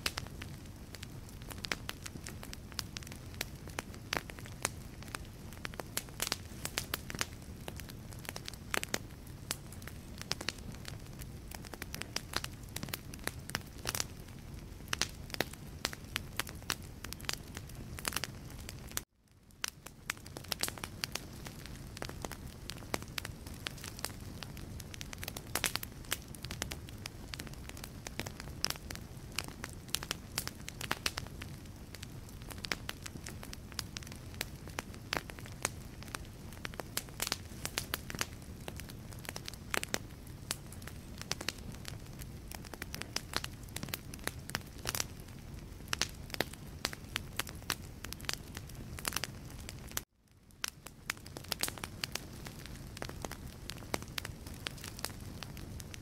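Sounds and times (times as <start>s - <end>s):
low rush of flame: 0.0s - 19.0s, 19.6s - 50.0s, 50.6s - 56.0s
wood fire crackling and popping: 0.0s - 56.0s.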